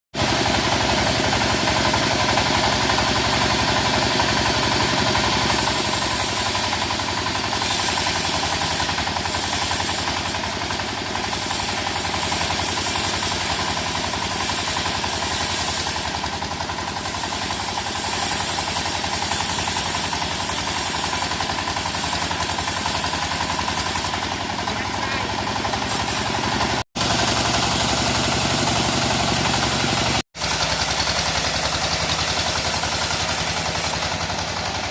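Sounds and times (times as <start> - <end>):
saw rig engine running: 0.2 - 34.9.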